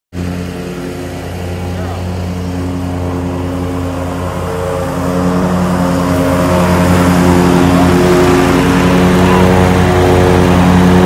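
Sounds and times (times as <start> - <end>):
motor engine humming: 0.1 - 11.0.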